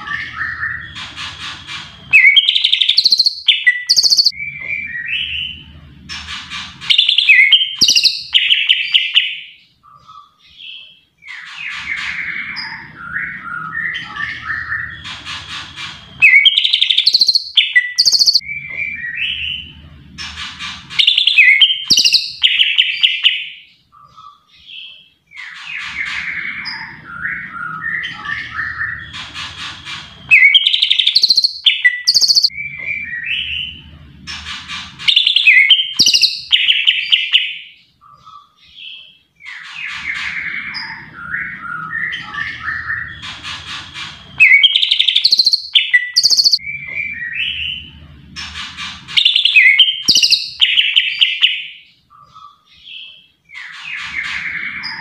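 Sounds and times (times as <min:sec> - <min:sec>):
bird singing chirps and trills: 0:00.0 - 0:55.0.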